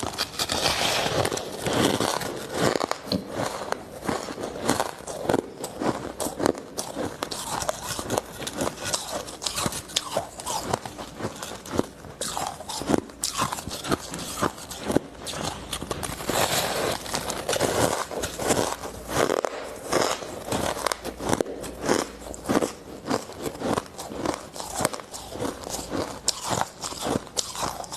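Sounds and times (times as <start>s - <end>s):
ice being chewed: 0.0s - 27.9s.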